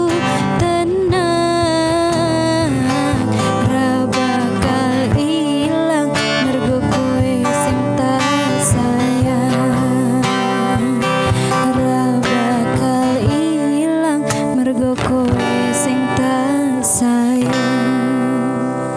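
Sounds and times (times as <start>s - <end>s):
instrumental guitar music with beat: 0.0s - 18.9s.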